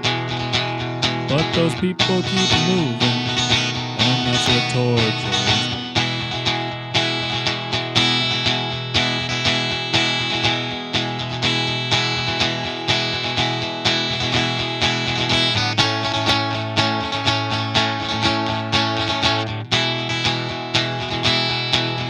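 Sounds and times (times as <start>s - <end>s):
bass guitar: 0.0s - 22.0s
electric guitar playing: 0.0s - 22.0s.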